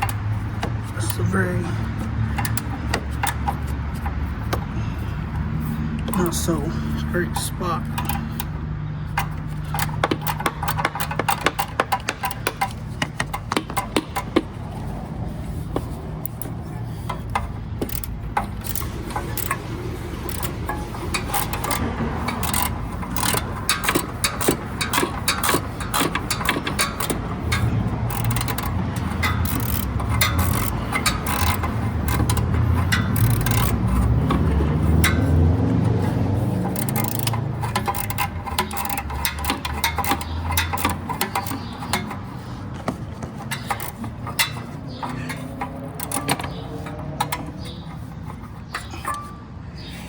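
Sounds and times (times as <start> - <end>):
hand ratchet clicking: 0.0 - 50.0.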